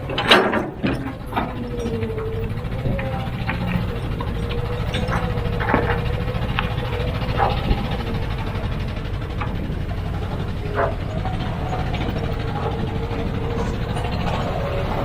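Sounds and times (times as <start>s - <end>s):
heavy diesel machinery engine: 0.0s - 15.0s.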